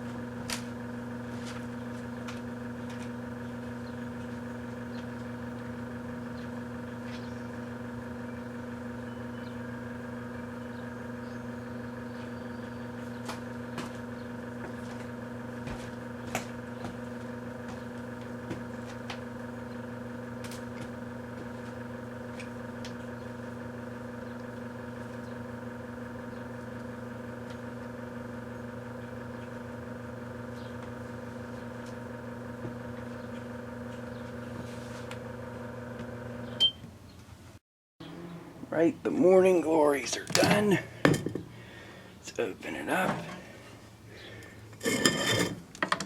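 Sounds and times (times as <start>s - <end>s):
microwave oven humming: 0.0s - 46.0s.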